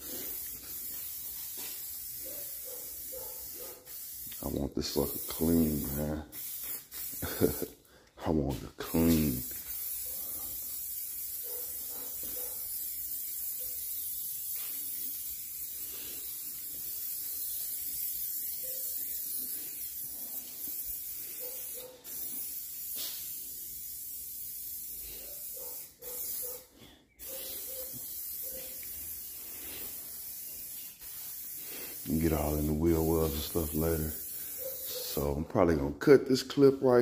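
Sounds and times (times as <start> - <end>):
spray wand hissing: 0.0 - 35.7.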